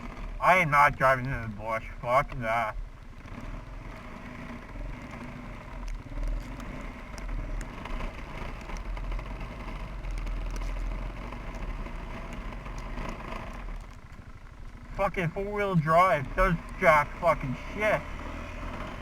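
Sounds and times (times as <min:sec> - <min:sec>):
atv engine running under load: 0:00.0 - 0:19.0.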